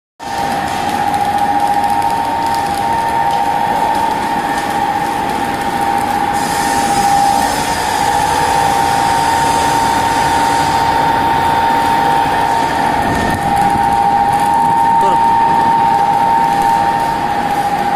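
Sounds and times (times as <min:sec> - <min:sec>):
centrifuge motor whining: 0:00.3 - 0:17.9.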